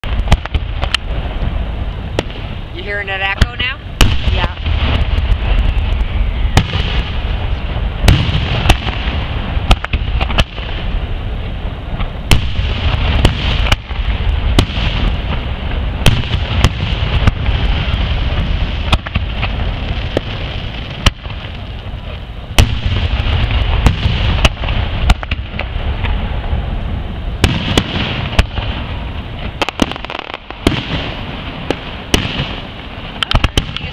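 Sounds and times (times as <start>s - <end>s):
continuous low rumble: 0.0s - 33.9s
fireworks booms and cracks: 0.0s - 33.9s.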